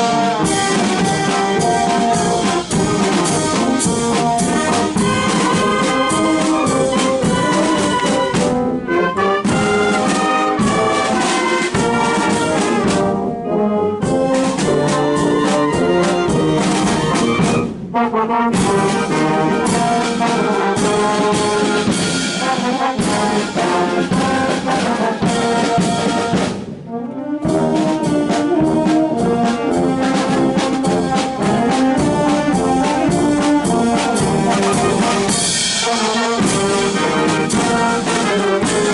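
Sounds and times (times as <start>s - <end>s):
brass band playing: 0.0s - 38.9s.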